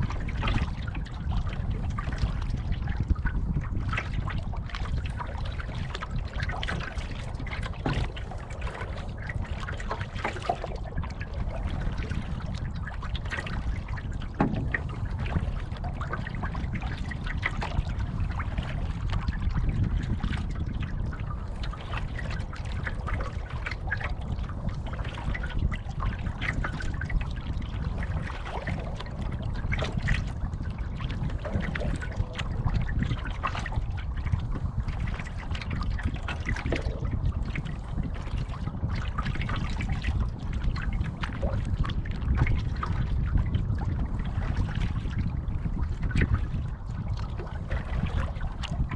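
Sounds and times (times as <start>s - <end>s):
steady low rumble: 0.0s - 48.9s
waves lapping against canoe: 0.0s - 48.9s.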